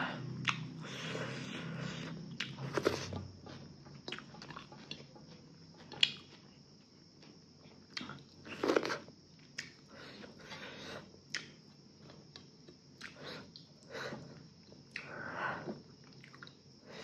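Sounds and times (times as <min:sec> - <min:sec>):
person chewing food: 0:00.2 - 0:16.8.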